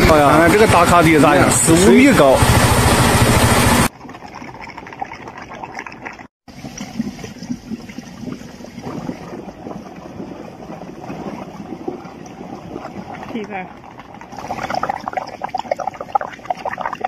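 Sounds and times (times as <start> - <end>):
water gurgling through mud: 0.0 - 17.0.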